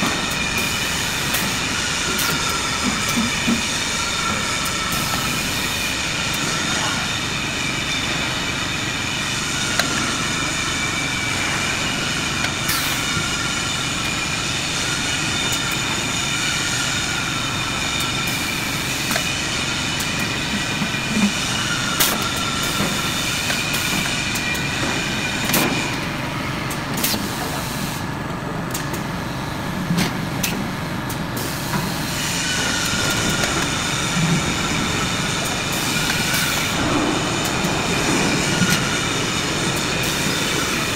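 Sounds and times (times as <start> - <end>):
high whining conveyor rollers: 0.0 - 40.9
steady machine noise: 0.0 - 40.9.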